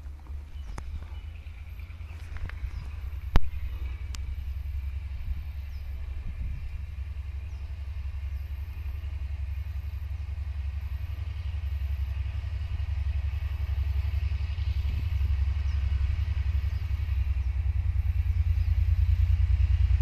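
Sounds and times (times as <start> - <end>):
locomotive engine rumbling: 0.0 - 20.0.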